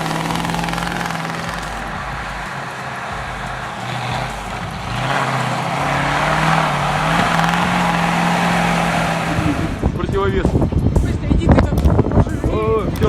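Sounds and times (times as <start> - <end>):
vehicle engine running: 0.0 - 12.4
broad rushing noise: 0.0 - 13.0.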